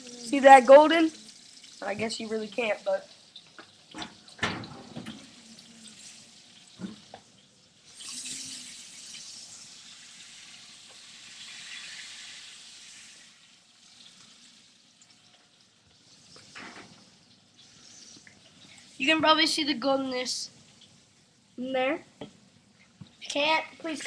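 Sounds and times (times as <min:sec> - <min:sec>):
fish sizzling in hot oil: 0:00.0 - 0:21.6.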